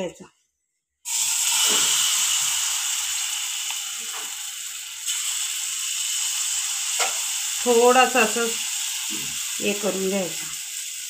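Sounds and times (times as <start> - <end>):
batter sizzling in hot oil: 1.0 - 11.0.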